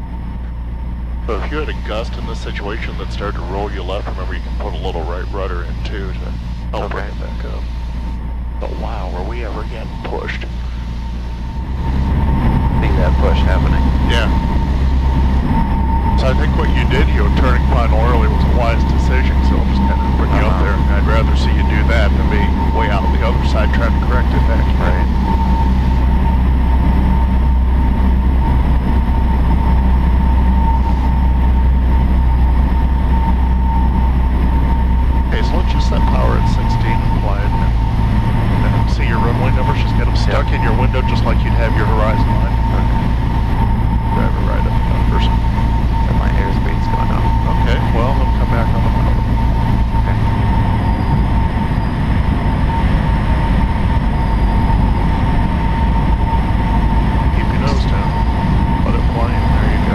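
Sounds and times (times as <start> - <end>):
propeller aircraft engine droning: 0.0 - 59.9
thin steady whine: 0.0 - 59.9.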